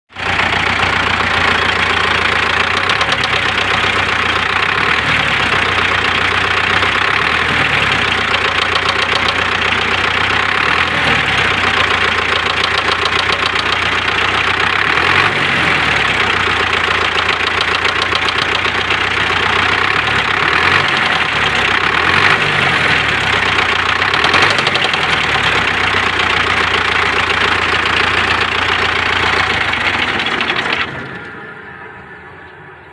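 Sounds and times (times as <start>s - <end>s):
engine knocking: 0.1s - 31.6s
diesel tractor engine running: 0.1s - 32.9s.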